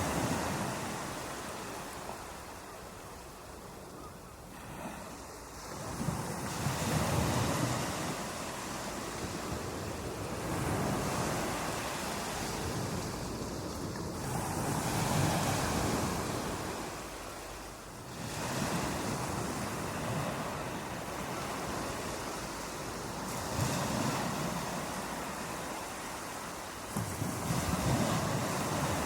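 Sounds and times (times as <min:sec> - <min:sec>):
ocean waves breaking: 0:00.0 - 0:29.0
wind on microphone: 0:04.6 - 0:17.2, 0:18.0 - 0:29.0.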